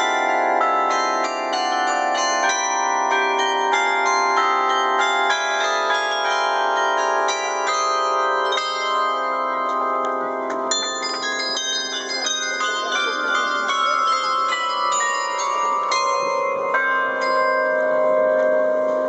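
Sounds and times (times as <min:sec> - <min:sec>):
carillon bells playing melody: 0:00.0 - 0:19.0.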